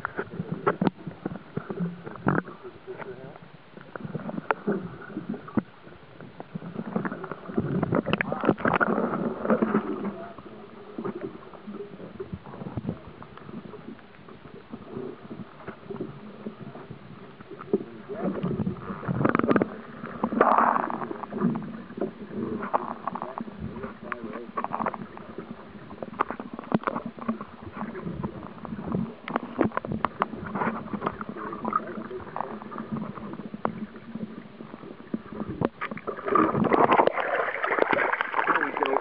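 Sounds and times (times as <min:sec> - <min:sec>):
water sloshing against hull: 0:00.0 - 0:39.0.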